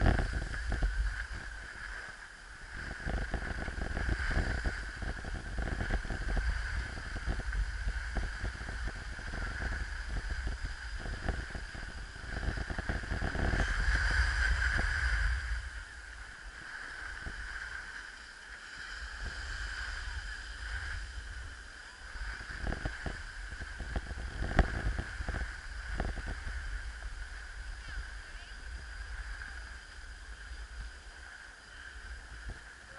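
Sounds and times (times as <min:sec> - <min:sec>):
wind rumbling on microphone: 0:00.0 - 0:32.9.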